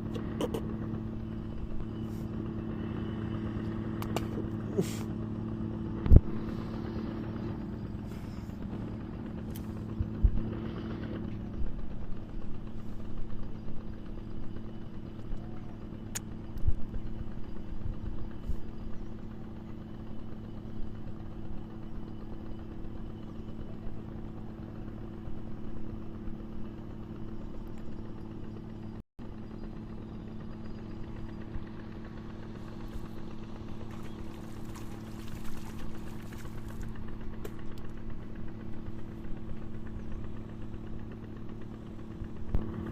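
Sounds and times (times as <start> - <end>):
small engine running steadily: 0.0 - 42.9.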